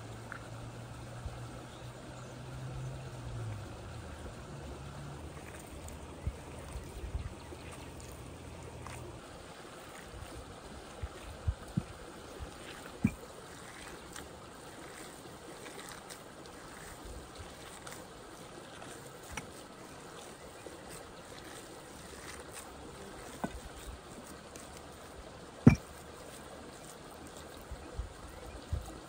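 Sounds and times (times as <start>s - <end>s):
running water: 0.0s - 29.0s.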